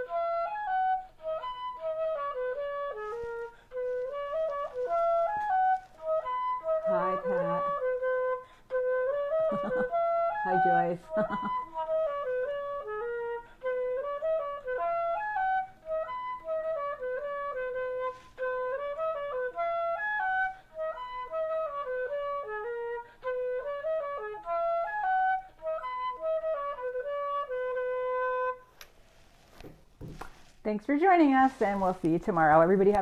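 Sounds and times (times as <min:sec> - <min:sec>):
simple melody background music: 0:00.0 - 0:30.2.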